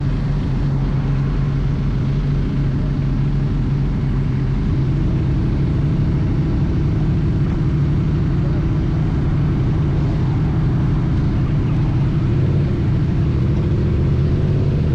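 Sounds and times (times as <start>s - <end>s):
motorcycle engine running steadily: 0.0s - 14.9s.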